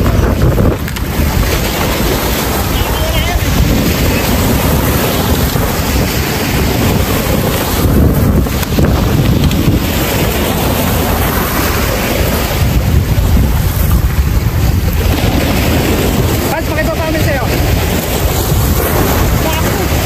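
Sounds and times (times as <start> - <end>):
waves breaking over rocks: 0.0 - 20.0
wind buffeting microphone: 0.0 - 20.0.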